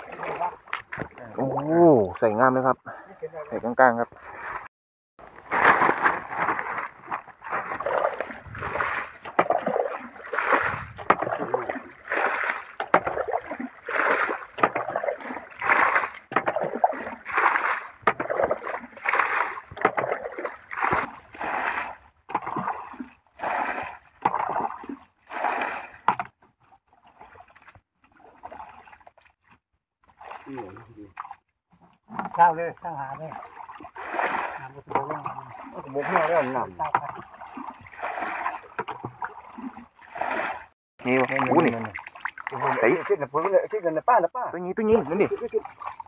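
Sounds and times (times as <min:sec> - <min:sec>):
bucket scooping and splashing water: 0:00.0 - 0:02.2, 0:04.1 - 0:43.6, 0:44.8 - 0:46.0.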